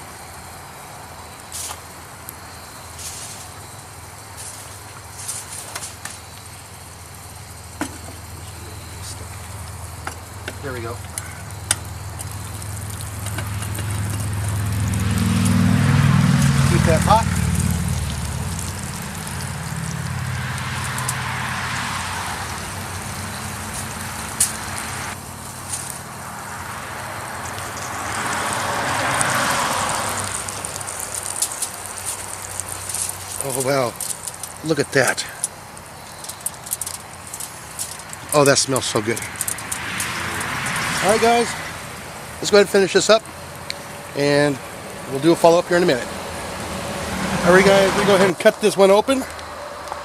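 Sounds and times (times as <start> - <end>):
campfire hissing and crackling: 0.0 - 50.0.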